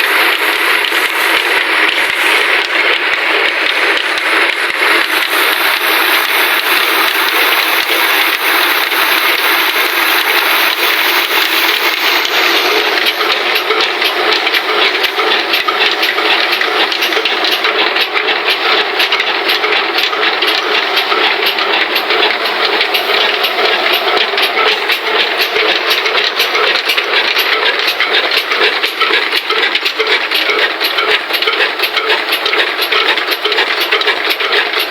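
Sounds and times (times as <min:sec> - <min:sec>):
flour mill mechanical clatter: 0:00.0 - 0:34.9.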